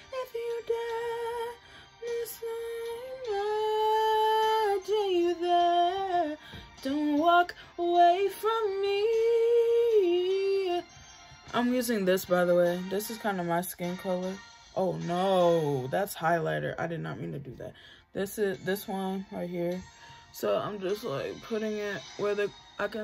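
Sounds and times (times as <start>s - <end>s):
woman singing unaccompanied: 0.0s - 10.9s, 11.5s - 23.0s.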